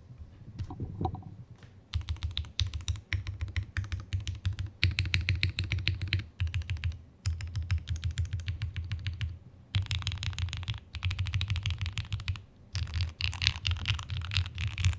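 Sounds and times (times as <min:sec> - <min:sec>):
mechanical keyboard typing: 0:01.9 - 0:14.9.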